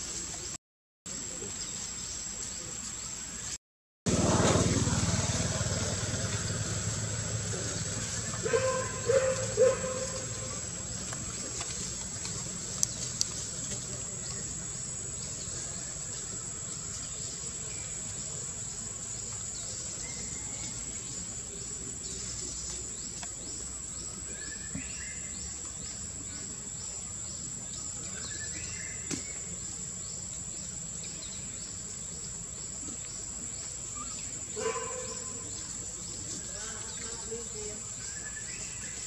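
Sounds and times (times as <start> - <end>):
insects buzzing: 4.1 - 39.0.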